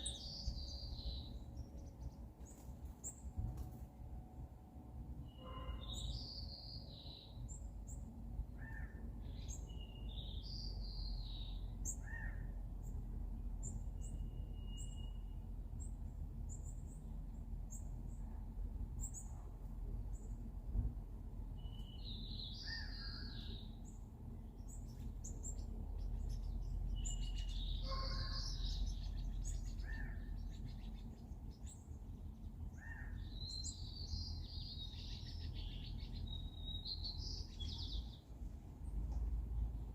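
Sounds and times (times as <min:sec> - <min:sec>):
songbirds singing: 0:00.0 - 0:39.9
steady low rumble: 0:06.8 - 0:39.9.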